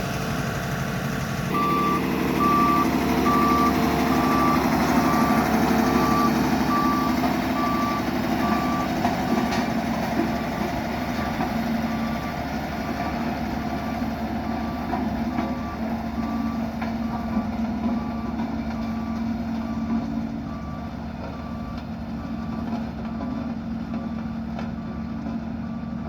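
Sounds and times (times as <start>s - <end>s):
road roller engine hum: 0.0s - 26.0s
reversing alarm beeping: 1.5s - 23.4s.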